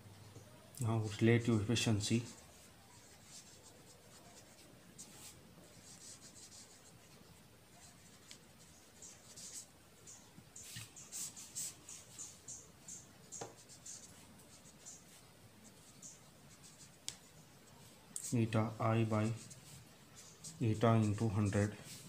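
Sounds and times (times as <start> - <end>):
pen scratching on paper: 2.2 - 22.0.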